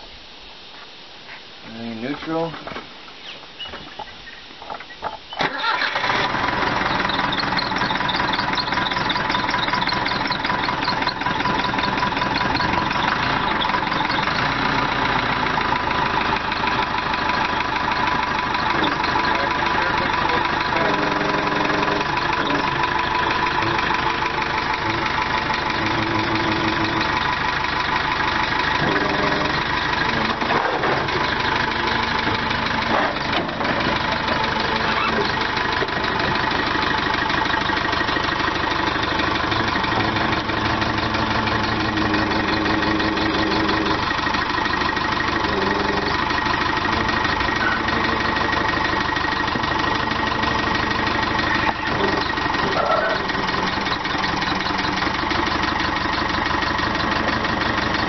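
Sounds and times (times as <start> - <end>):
hydraulics working: 3.6 - 58.0
diesel engine idling: 5.2 - 58.0.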